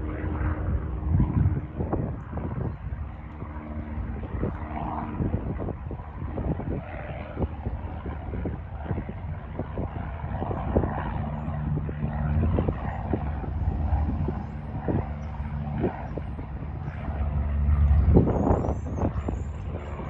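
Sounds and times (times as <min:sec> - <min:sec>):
propeller airplane engine drone: 0:00.0 - 0:20.0.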